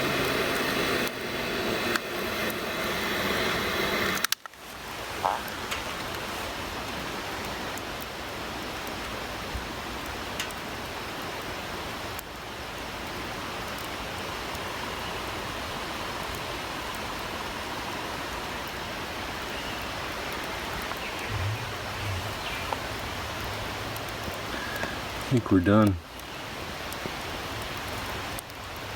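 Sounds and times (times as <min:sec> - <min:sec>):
campfire hissing: 0:00.0 - 0:28.9
fire crackles: 0:00.0 - 0:28.9.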